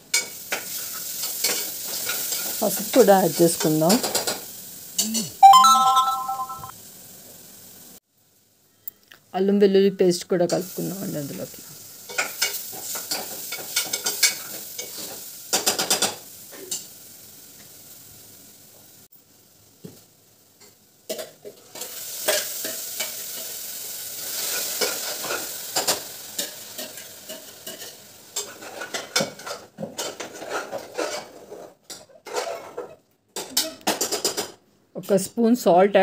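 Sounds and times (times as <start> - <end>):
food sizzling in oil: 0.0 - 6.3, 9.8 - 32.9.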